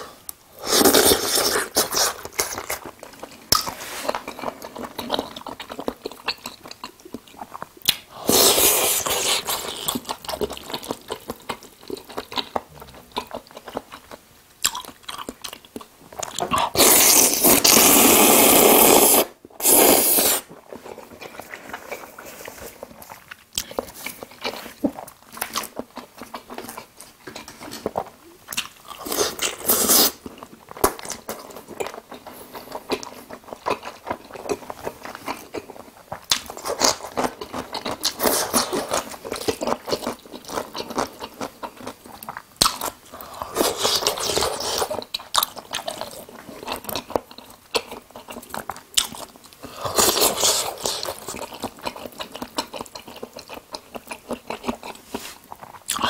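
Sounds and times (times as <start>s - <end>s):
person chewing and crunching food: 0.2s - 56.0s.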